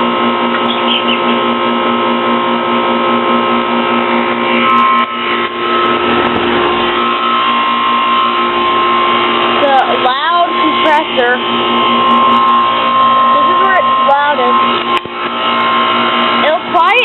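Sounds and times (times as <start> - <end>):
heat pump unit humming: 0.0 - 17.0
high whine: 0.0 - 17.0.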